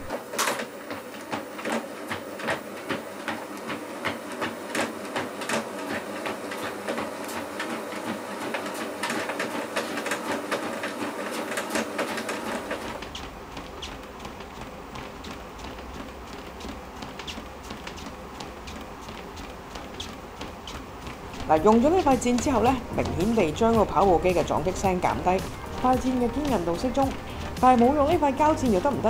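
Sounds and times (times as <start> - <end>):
footfall thuds on treadmill belt: 0.0 - 28.2
treadmill motor hum: 0.0 - 29.0.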